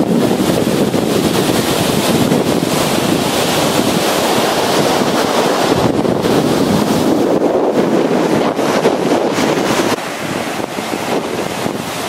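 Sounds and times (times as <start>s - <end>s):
surf rushing onto sand: 0.0s - 12.0s
wind buffeting microphone: 0.0s - 12.0s.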